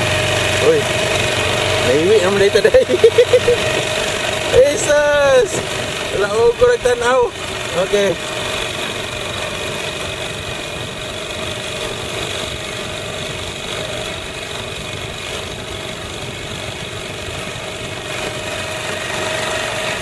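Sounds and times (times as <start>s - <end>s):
small outboard motor running: 0.0s - 20.0s.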